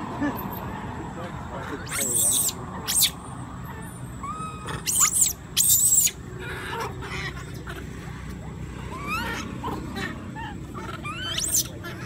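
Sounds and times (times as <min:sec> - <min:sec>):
infant monkeys squealing: 0:01.6 - 0:08.1, 0:08.7 - 0:12.0.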